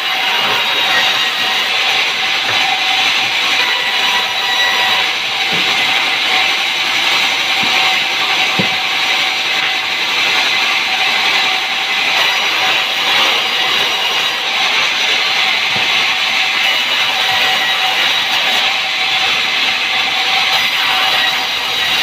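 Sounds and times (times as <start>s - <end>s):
saw cutting through timber: 0.0s - 22.0s.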